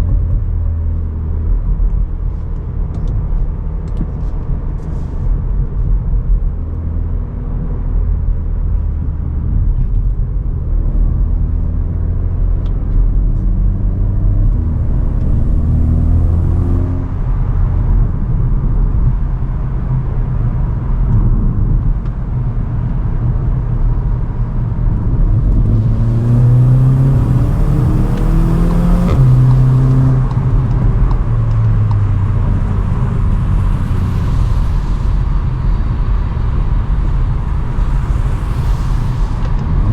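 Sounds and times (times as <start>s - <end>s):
road rumble: 0.0s - 39.9s
car engine accelerating hard: 3.9s - 39.9s.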